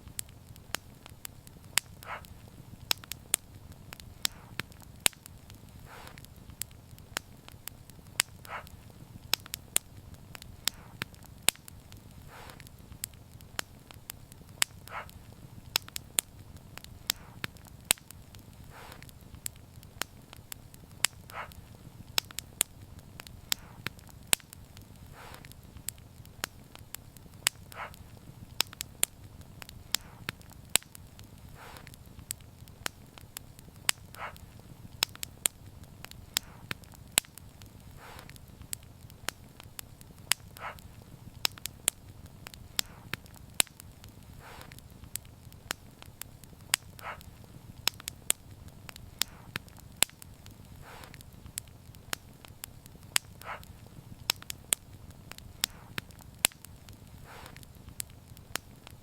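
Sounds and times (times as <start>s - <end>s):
fire low rumble: 0.0s - 59.0s
fire soft hiss: 0.0s - 59.0s
wood fire pops and snaps: 0.0s - 59.0s.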